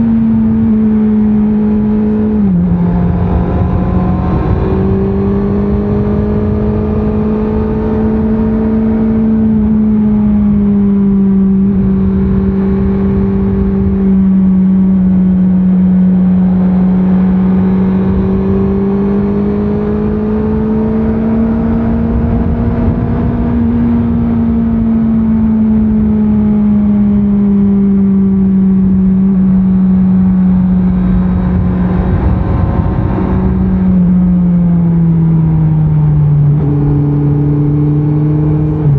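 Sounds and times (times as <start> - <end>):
motorcycle engine at mid revs: 0.0 - 38.9
wind and road noise: 0.0 - 38.9.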